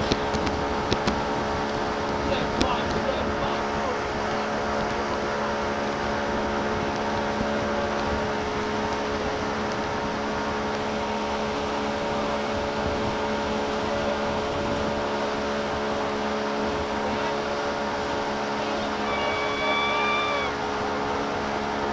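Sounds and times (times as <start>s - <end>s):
motorboat engine humming: 0.0s - 21.9s
water churning: 0.0s - 21.9s.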